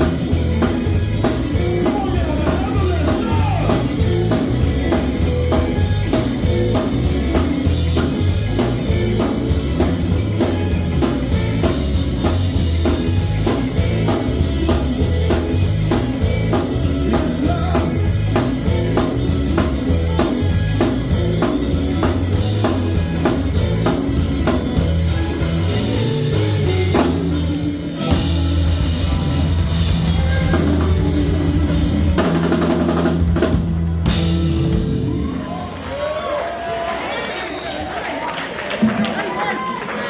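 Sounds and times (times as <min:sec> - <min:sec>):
drum kit beat: 0:00.0 - 0:35.6
bass line: 0:00.0 - 0:35.9
live gospel band music: 0:00.0 - 0:40.0.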